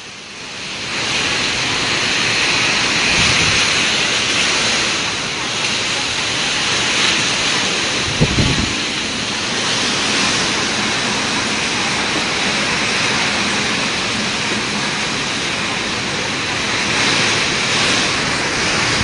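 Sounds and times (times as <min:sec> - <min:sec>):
wind and heavy rain: 0:00.0 - 0:19.0.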